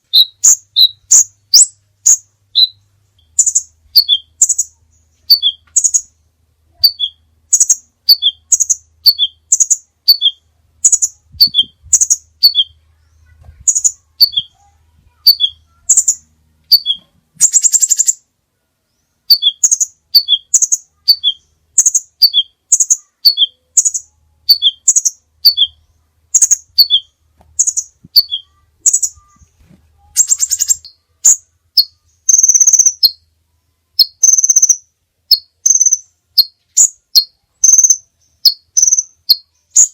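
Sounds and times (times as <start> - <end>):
faint low hum: 0.0 - 39.9
songbird singing: 0.0 - 39.9.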